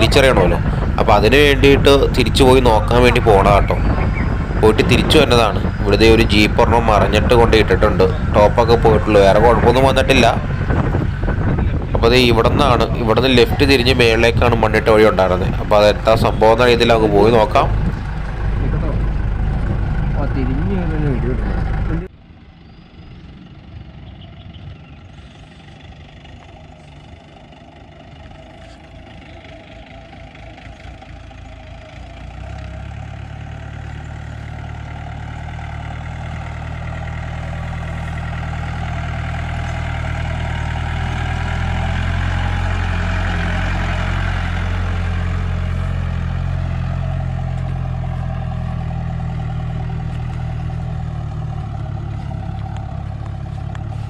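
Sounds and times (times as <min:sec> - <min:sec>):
jeep engine climbing uphill: 0:00.0 - 0:54.0.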